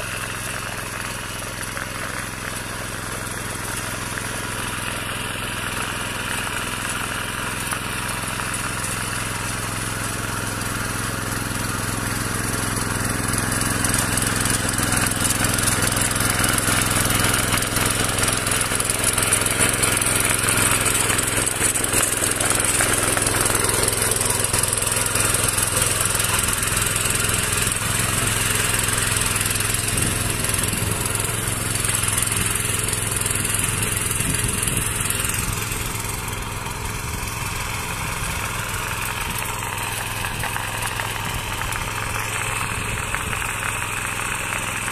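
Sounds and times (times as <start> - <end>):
small engine running: 0.0 - 44.9
tines tilling soil: 0.0 - 44.9.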